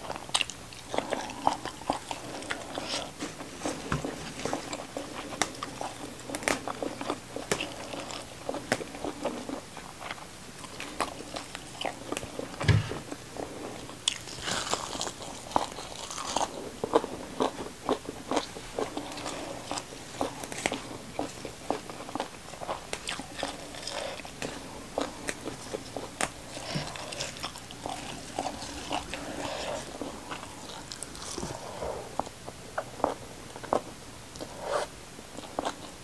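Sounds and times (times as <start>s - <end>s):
chewing and crunching food: 0.0s - 36.0s.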